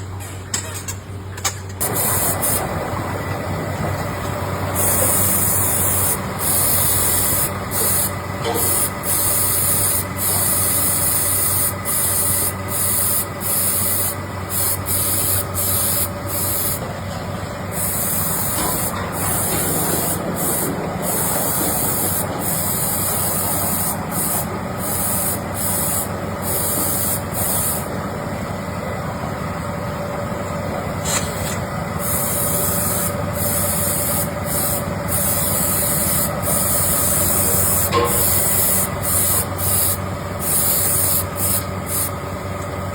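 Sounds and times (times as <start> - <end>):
workshop machinery droning hum: 0.0 - 42.9.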